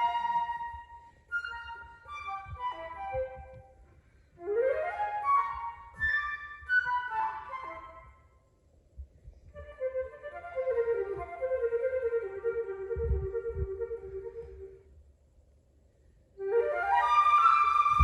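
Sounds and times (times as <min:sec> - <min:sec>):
solo flute playing: 0:00.0 - 0:03.8, 0:04.4 - 0:08.3, 0:09.6 - 0:14.9, 0:16.4 - 0:18.0.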